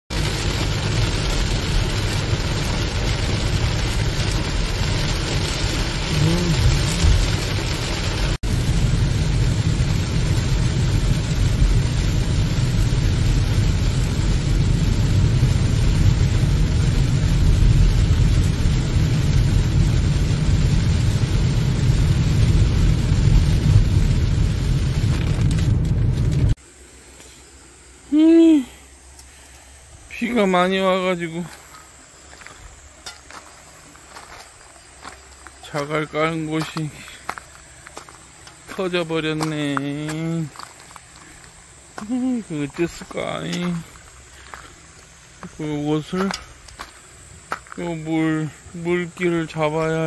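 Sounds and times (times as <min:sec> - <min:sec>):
heavy rain on a car: 0:00.1 - 0:26.6, 0:33.4 - 0:50.0
tyres on wet road: 0:00.1 - 0:27.3, 0:28.2 - 0:50.0.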